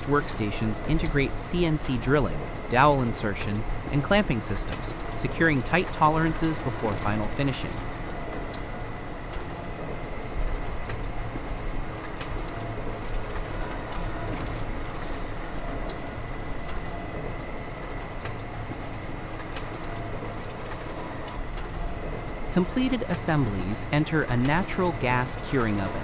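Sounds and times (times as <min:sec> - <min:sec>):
factory machinery humming: 0:00.0 - 0:26.0.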